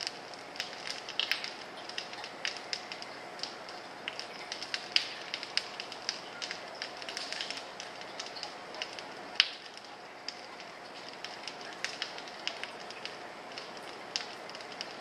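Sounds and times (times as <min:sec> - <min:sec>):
faint steady hiss and hum: 0:00.0 - 0:15.0.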